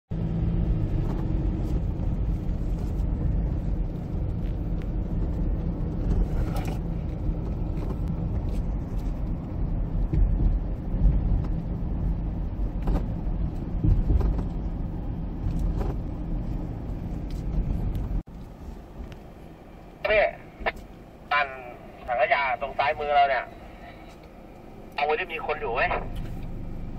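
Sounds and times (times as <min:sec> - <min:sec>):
car engine and tyres droning: 0:00.1 - 0:26.9.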